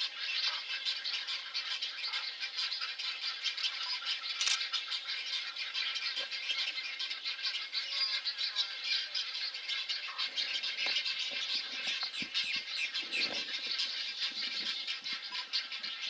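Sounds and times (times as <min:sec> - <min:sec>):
rattling and chirping wildlife chorus: 0:00.1 - 0:16.0.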